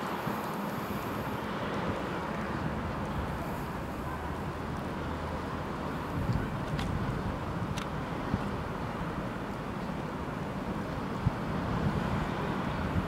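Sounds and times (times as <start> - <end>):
outdoor background rush: 0.0 - 13.0.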